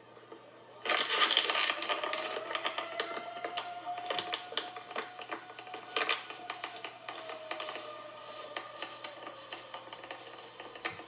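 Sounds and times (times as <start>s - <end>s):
crackling and rustling noise: 0.0s - 11.0s
distant warning siren winding up: 1.2s - 11.0s.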